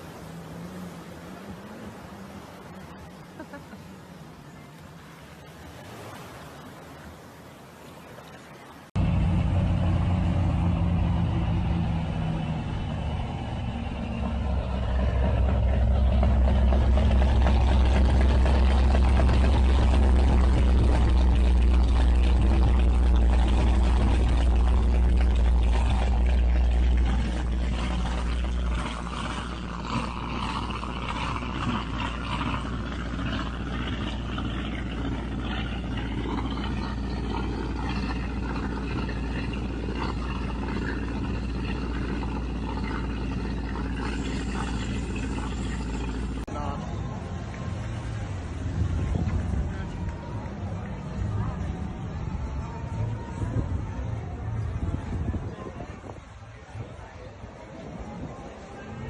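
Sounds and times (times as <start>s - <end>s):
rushing water noise: 0.0s - 53.3s
motorboat engine rumbling: 0.0s - 59.0s.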